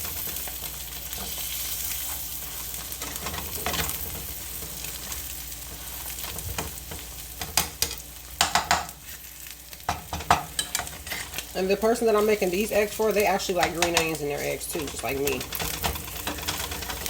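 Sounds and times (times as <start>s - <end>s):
eggs sizzling in a frying pan: 0.0s - 17.0s.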